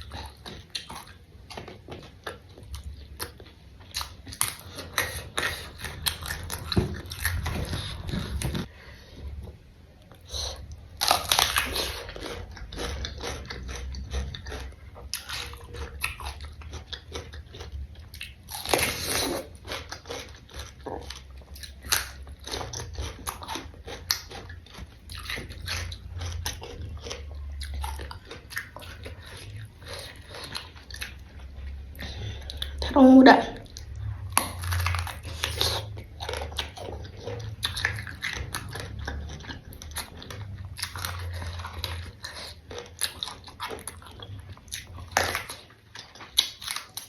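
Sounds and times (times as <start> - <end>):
faint low hum: 0.0 - 47.0
person chewing crunchy vegetables: 0.0 - 47.0.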